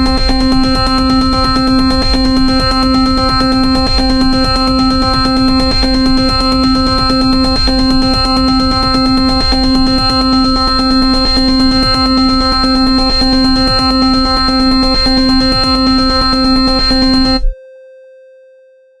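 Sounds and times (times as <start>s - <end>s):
electronic drum beat: 0.0s - 17.5s
buzzing synthesizer tone: 0.0s - 17.6s.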